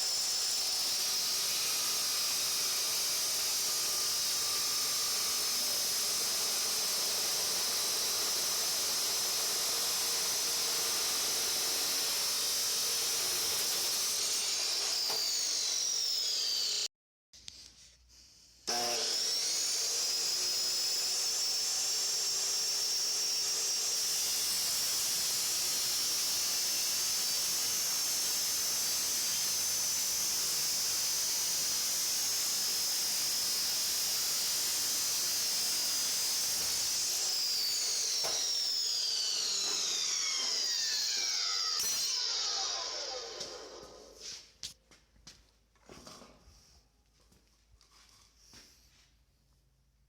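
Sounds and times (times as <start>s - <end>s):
power tool grinding whine: 0.0s - 16.9s, 18.7s - 44.3s.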